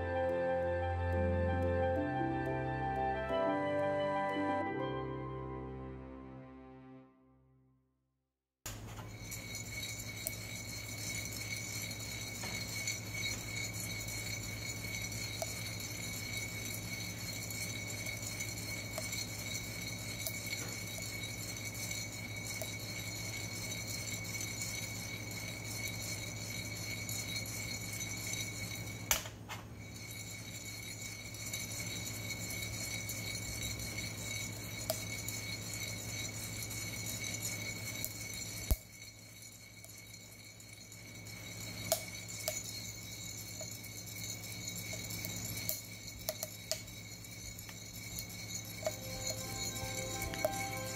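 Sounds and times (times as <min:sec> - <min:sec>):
coffee beans rattling: 0:08.8 - 0:29.2, 0:29.8 - 0:50.9.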